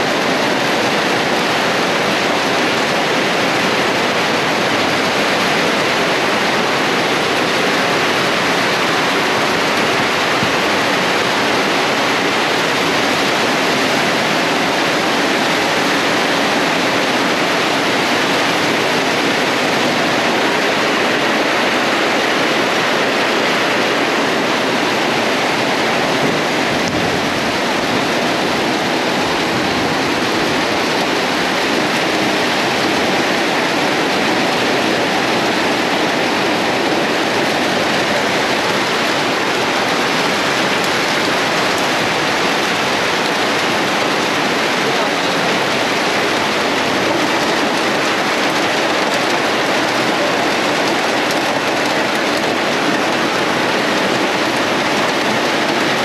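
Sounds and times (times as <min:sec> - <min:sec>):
heavy rain on a metal roof: 0:00.0 - 0:56.0
water streaming off roof: 0:00.0 - 0:56.0.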